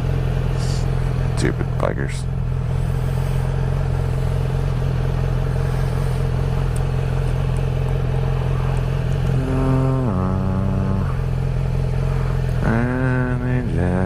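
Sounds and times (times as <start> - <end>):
higher engine note: 0.0 - 14.0
motorcycle engine running: 0.0 - 14.0.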